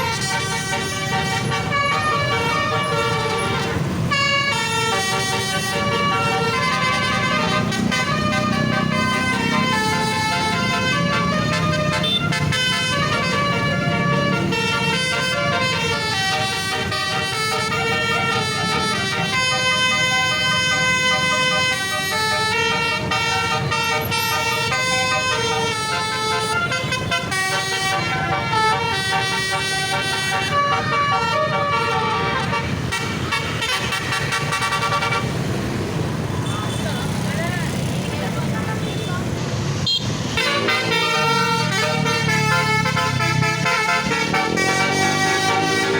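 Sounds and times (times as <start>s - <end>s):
multi-tone bus horn melody: 0.0s - 37.2s, 37.8s - 45.9s.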